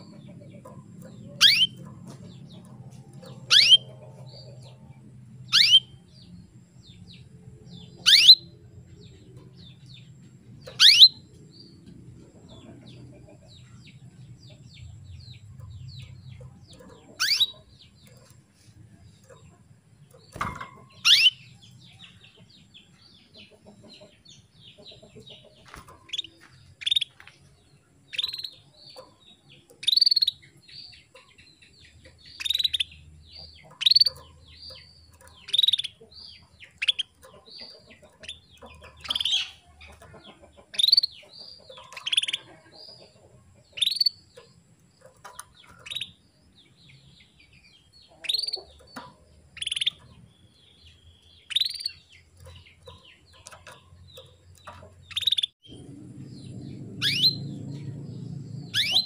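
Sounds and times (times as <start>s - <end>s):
canary chirping: 0.0s - 59.0s
soft bird twittering: 1.2s - 1.9s, 2.5s - 4.8s, 5.4s - 6.1s, 7.8s - 8.6s, 10.6s - 11.8s, 15.2s - 19.4s, 20.1s - 46.8s, 47.5s - 59.0s.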